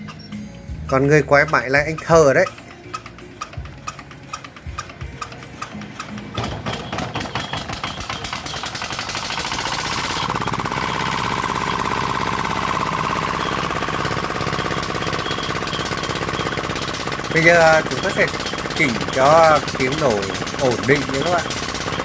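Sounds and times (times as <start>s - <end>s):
diesel engine knocking: 0.0s - 22.0s.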